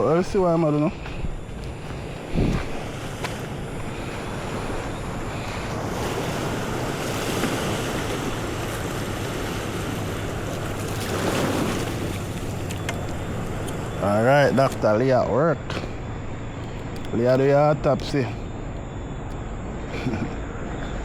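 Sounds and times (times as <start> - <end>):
surf washing on shore: 0.0 - 18.2
wind buffeting microphone: 0.0 - 19.7.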